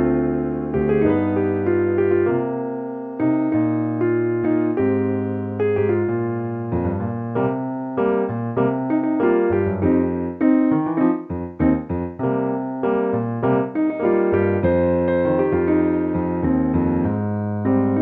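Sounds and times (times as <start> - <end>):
digital piano playing: 0.0 - 18.0.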